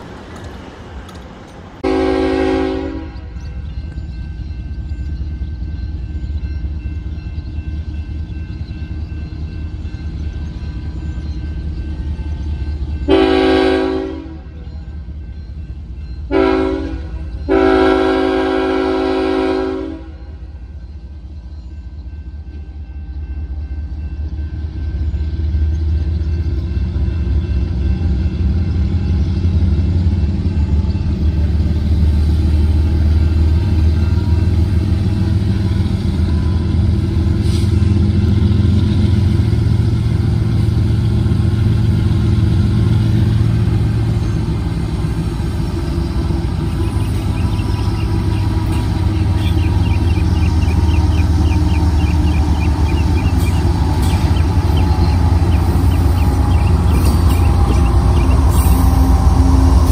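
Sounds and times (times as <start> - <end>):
diesel locomotives rumbling: 0.0 - 59.9.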